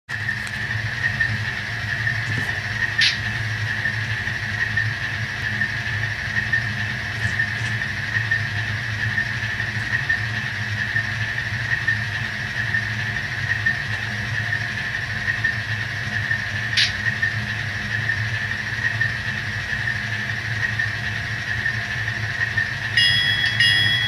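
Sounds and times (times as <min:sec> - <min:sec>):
model locomotive diesel idle: 0:00.1 - 0:24.0.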